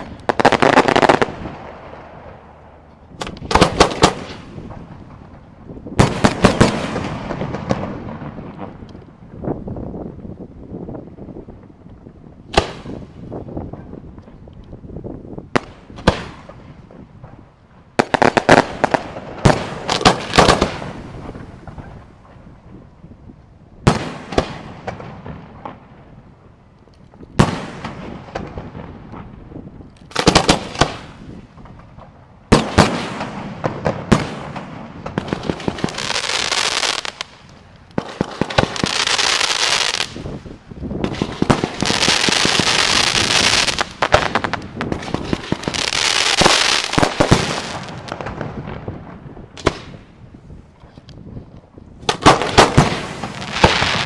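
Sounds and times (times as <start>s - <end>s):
dense firework crackling: 0.0s - 54.0s.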